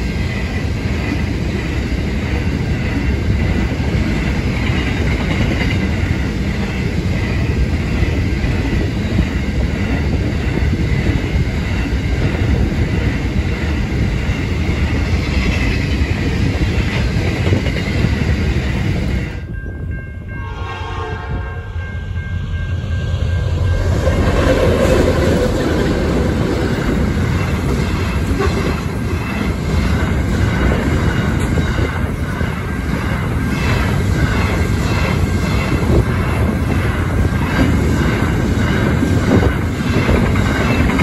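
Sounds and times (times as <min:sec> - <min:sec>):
train wheels clattering: 0:00.0 - 0:19.4, 0:23.0 - 0:41.0
diesel locomotives passing: 0:00.0 - 0:41.0
steady tones: 0:06.0 - 0:41.0.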